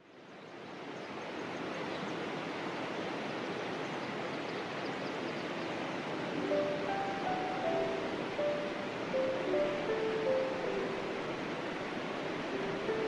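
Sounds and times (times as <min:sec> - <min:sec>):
flowing water rushing: 0:00.5 - 0:13.0.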